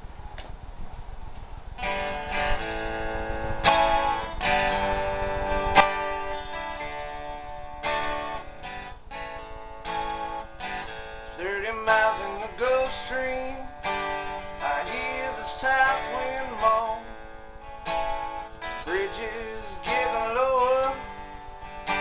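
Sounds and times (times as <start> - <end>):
acoustic guitar strumming: 1.8 - 22.0.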